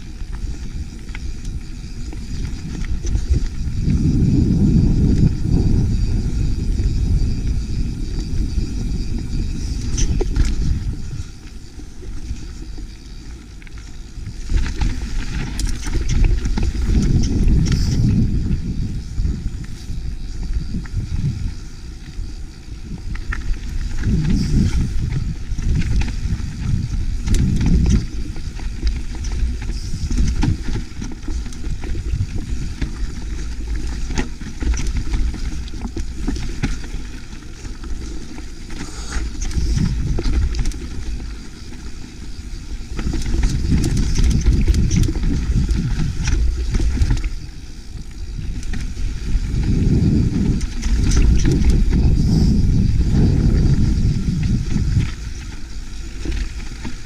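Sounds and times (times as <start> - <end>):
bike rattling over rock: 0.0 - 57.0
wind rumbling on microphone: 0.0 - 57.0.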